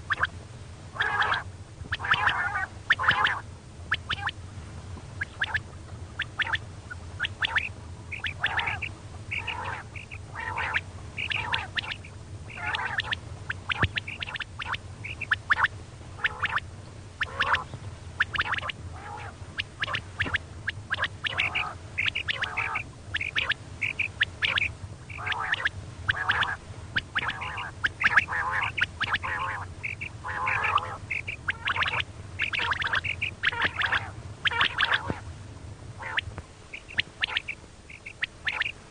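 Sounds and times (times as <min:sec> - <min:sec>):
quail calling: 0:00.0 - 0:04.4, 0:05.2 - 0:35.3, 0:36.0 - 0:38.9
low hum: 0:00.0 - 0:38.9.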